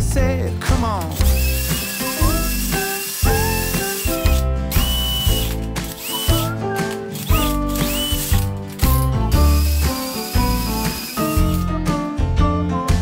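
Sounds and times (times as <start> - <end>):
background music with beat: 0.0 - 13.0.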